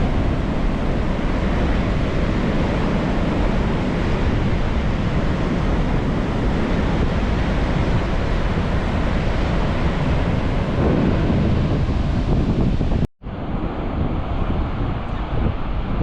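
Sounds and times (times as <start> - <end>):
ocean surf rushing: 0.0 - 16.0
wind rumbling on microphone: 0.0 - 16.0.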